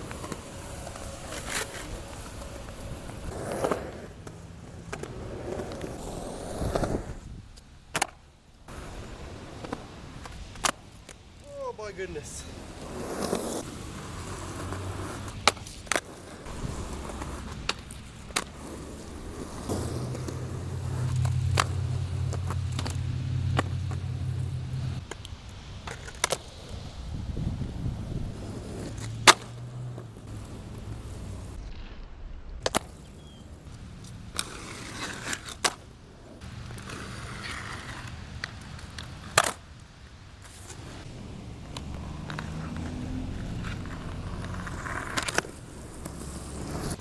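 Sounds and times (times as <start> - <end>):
skateboard clacking on ground: 0.0 - 26.7, 28.3 - 31.6, 32.6 - 47.0
skateboard wheels rumbling: 0.0 - 47.0.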